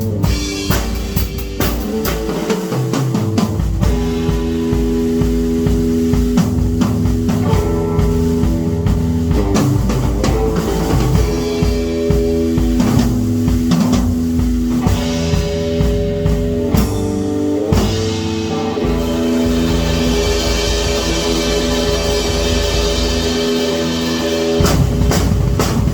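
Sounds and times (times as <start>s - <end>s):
rock music with drums and guitar: 0.0s - 25.9s.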